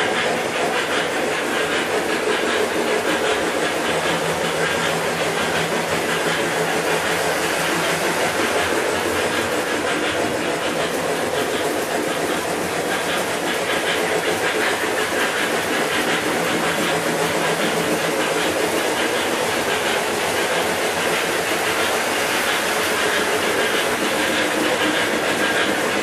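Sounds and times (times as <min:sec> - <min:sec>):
model trains rolling: 0:00.0 - 0:26.0.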